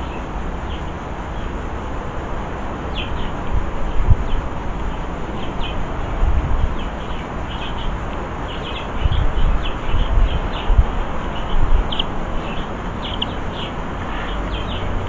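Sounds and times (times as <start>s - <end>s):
small birds chirping: 0.0s - 1.7s, 2.8s - 15.0s.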